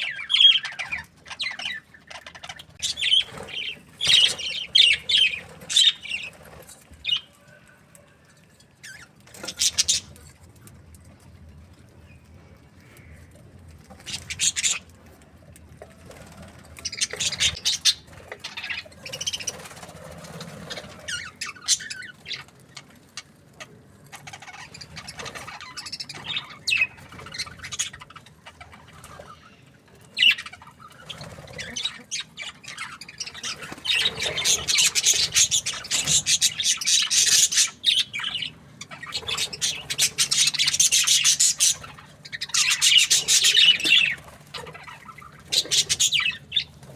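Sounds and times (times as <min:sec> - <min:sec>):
budgerigars chirping and squawking: 0:00.0 - 0:07.6, 0:08.8 - 0:10.4, 0:12.8 - 0:14.9, 0:16.1 - 0:46.9.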